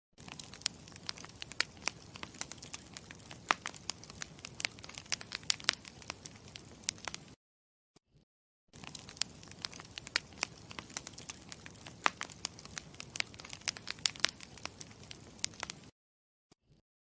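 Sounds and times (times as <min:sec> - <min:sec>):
burning wood popping and snapping: 0:00.2 - 0:07.4, 0:08.8 - 0:15.9
low rush of campfire: 0:00.2 - 0:07.4, 0:08.8 - 0:15.9.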